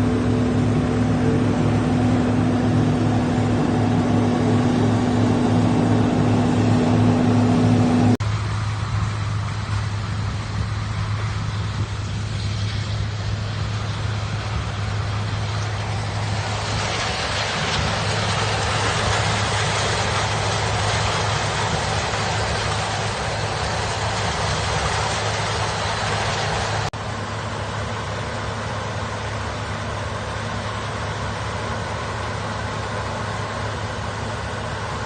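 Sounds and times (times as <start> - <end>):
broad rushing noise: 0.0 - 35.0
diesel engines humming: 0.0 - 35.0.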